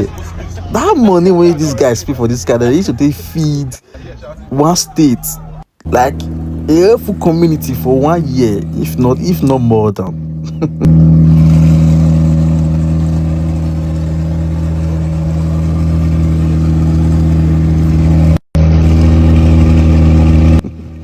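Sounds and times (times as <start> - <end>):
sports car engine running: 0.0 - 21.0.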